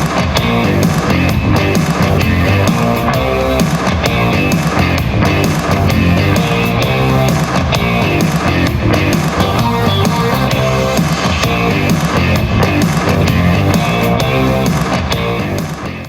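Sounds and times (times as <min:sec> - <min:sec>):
instrumental music with strong bass: 0:00.0 - 0:16.0.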